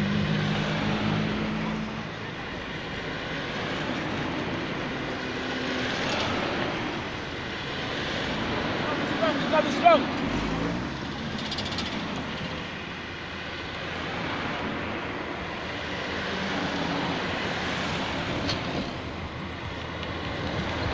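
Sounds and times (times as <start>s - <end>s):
engine hum: 0.0s - 20.9s
tyre road noise: 0.0s - 20.9s.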